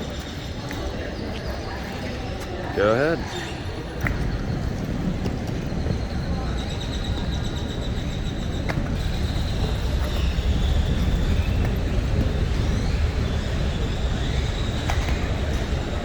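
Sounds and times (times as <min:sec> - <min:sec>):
rumble of vehicle traffic: 0:00.0 - 0:16.0.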